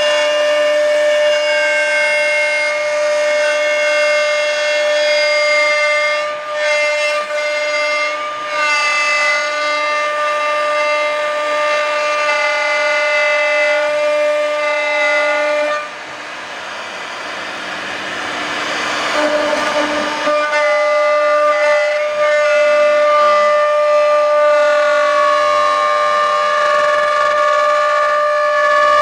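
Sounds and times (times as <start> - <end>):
router spindle whining: 2.7 - 29.0.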